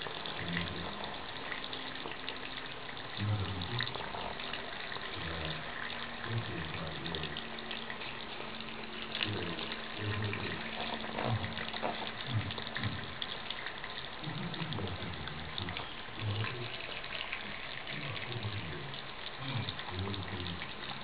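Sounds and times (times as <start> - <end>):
cat lapping water: 0.0 - 21.0
low muffled sounds: 0.0 - 21.0
tap water running into sink: 0.0 - 21.0.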